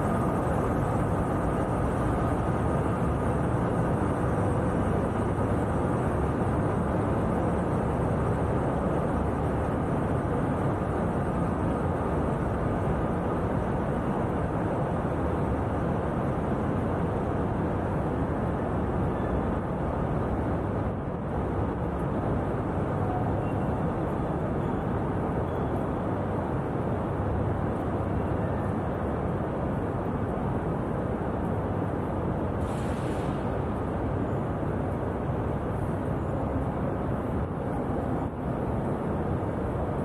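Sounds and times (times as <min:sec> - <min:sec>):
low rumble of engine noise: 0:00.0 - 0:40.0.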